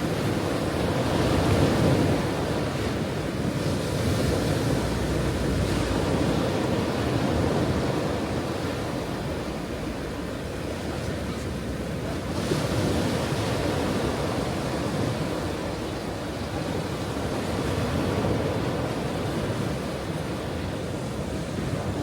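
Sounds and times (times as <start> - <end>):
ocean waves washing onto shore: 0.0 - 22.0.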